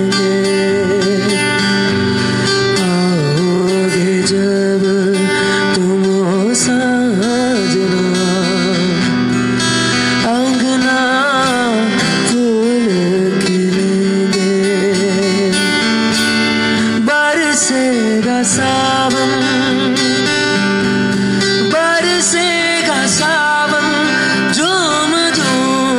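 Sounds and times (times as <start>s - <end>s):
man singing slow melody: 0.0s - 25.9s
strummed acoustic guitar: 0.0s - 25.9s.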